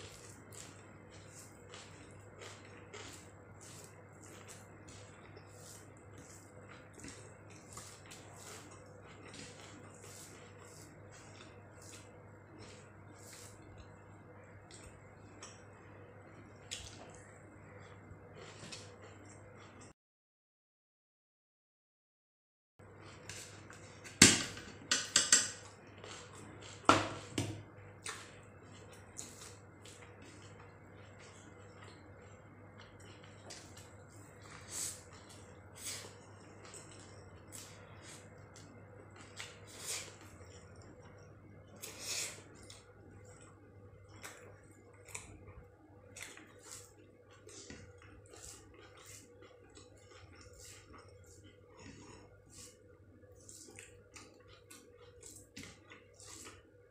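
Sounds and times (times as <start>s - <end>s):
chewing: 0.0s - 19.9s, 25.6s - 56.9s.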